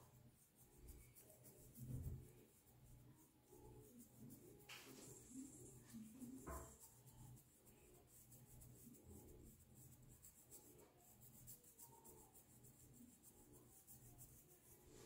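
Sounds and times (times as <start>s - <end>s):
comb scratching through hair: 0.0s - 15.0s.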